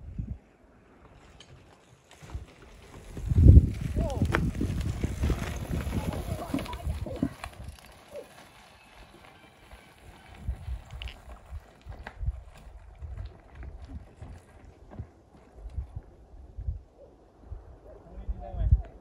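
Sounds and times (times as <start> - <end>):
mountain bike tyres crunching: 0.9 - 16.2.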